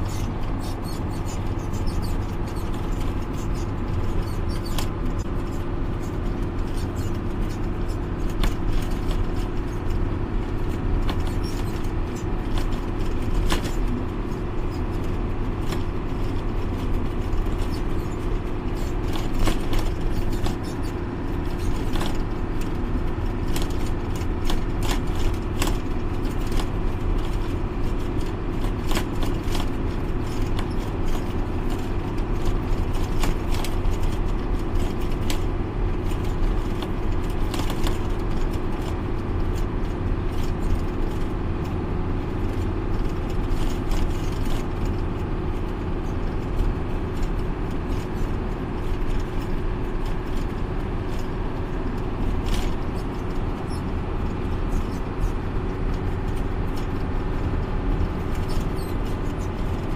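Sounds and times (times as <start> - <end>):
cab rattles and clicks: 0.0 - 59.9
constant hum: 0.0 - 59.9
engine and road drone: 0.0 - 59.9.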